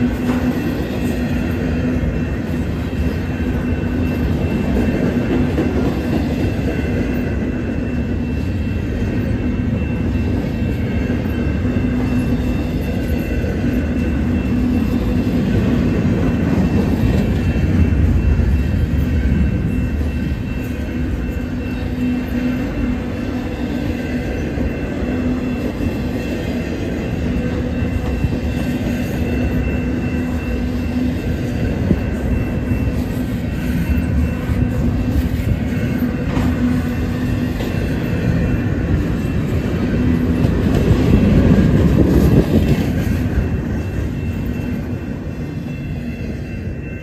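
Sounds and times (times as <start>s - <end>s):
steel wheels rumbling on rail: 0.0s - 47.0s.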